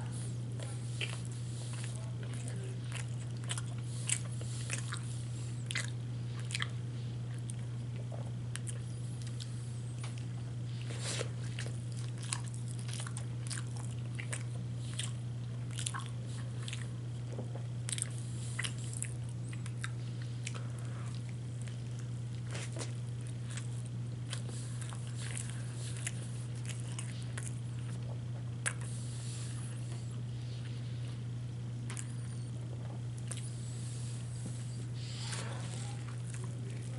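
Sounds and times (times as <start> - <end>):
person chewing food: 0.0 - 36.9
steady low hum: 0.0 - 36.9.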